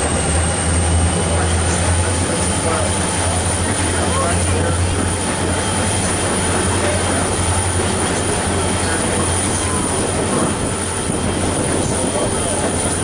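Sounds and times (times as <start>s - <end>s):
low drone: 0.0s - 13.0s
train wheels rumbling on rails: 0.0s - 13.0s.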